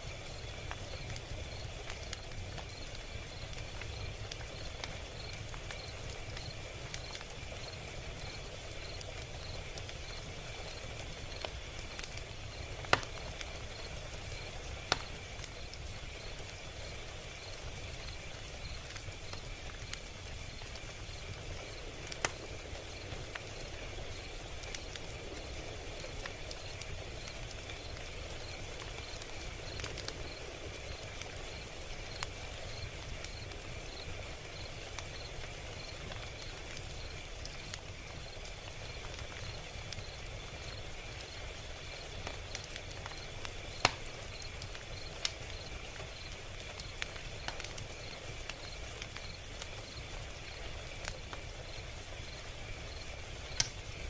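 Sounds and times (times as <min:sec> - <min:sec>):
crickets chirping: 0:00.0 - 0:54.0
log fire crackling: 0:00.0 - 0:54.0
fire pops: 0:00.1 - 0:54.0.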